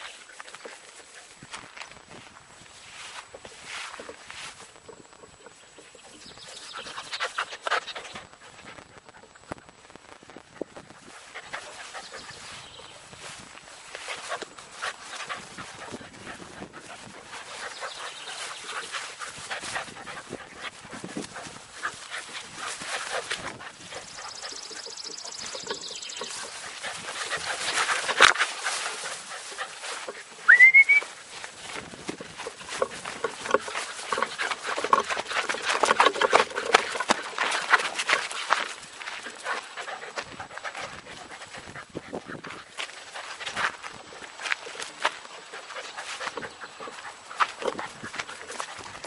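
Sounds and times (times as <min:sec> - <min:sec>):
rustling and handling noise: 0:00.0 - 0:49.0
puppy panting: 0:03.9 - 0:13.1, 0:13.8 - 0:49.0.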